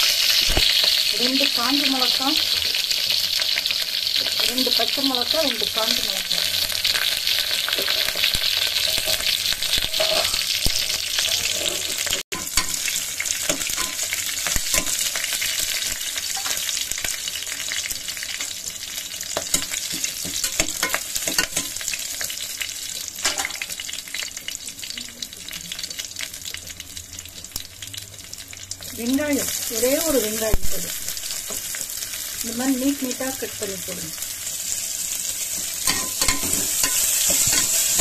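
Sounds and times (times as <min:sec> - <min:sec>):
hot oil sizzling with crackling pops: 0:00.0 - 0:38.0.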